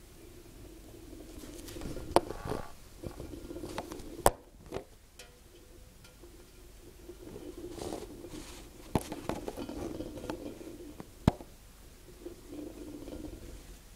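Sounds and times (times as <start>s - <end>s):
can rolling on stone countertop: 0.5s - 13.8s.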